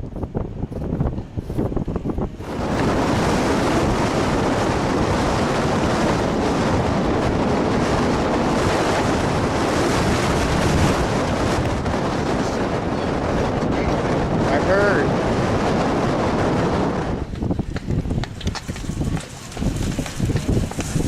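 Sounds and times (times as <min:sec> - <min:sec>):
strong wind on microphone: 0:00.0 - 0:21.0.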